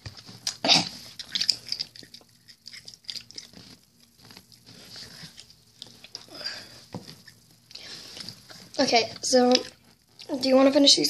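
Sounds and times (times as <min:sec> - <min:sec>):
person chewing food: 0:00.0 - 0:10.5.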